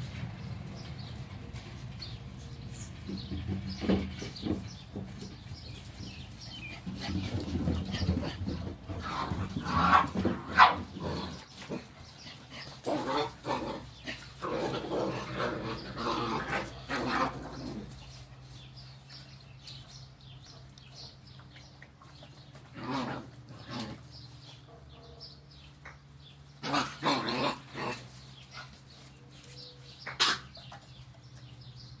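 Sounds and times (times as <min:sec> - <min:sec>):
puppies yipping and barking: 0:01.8 - 0:32.0.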